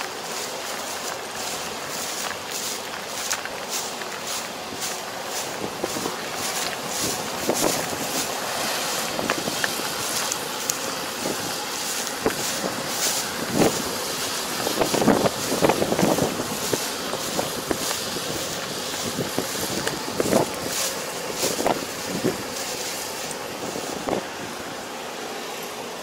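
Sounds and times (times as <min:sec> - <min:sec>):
combine harvester running: 0:00.0 - 0:26.0.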